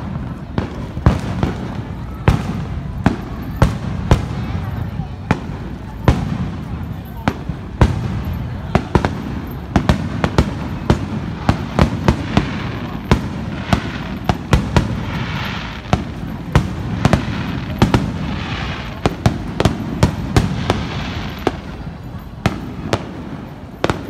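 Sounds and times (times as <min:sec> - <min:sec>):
crackling firework glitter: 0:00.0 - 0:24.0.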